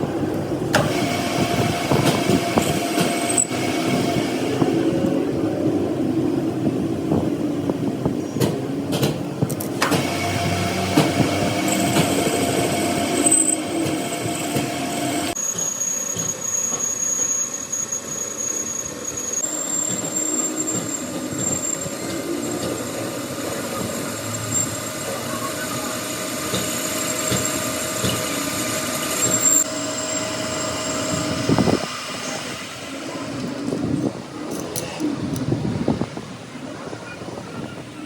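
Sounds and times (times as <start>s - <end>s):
workshop machinery running: 0.0s - 5.6s, 8.4s - 18.5s, 19.1s - 35.4s.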